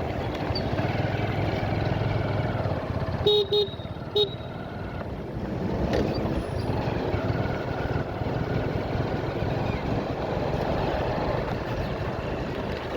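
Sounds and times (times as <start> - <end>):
motorcycle engine rumble: 0.0 - 12.9.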